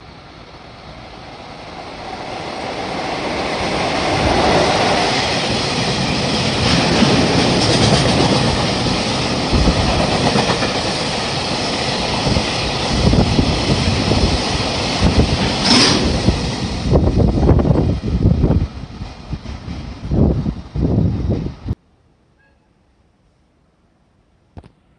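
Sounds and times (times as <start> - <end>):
freight train rumble: 0.0 - 21.8.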